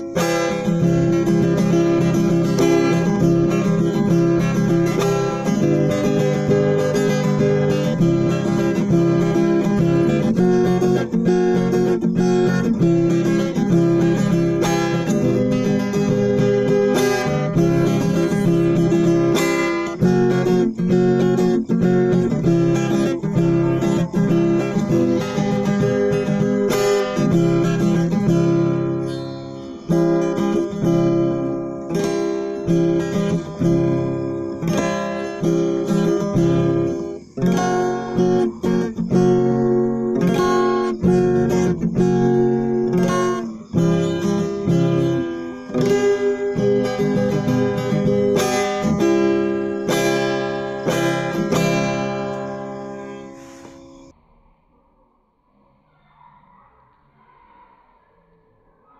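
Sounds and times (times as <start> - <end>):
acoustic guitar strumming chords: 0.0 - 54.1.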